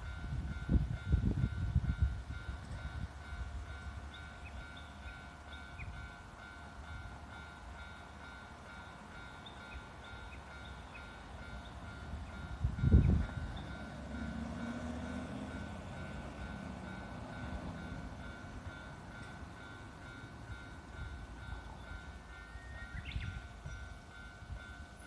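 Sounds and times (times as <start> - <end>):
level-crossing warning bell: 0.0 - 25.0
train rumbling: 0.0 - 25.0.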